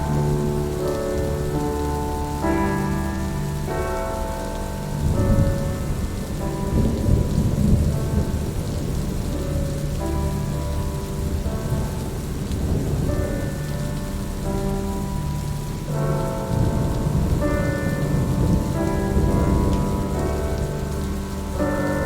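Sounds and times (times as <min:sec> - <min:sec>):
soft music chords: 0:00.0 - 0:22.0
steady rain: 0:00.0 - 0:22.0
thunder rumble: 0:00.0 - 0:22.0.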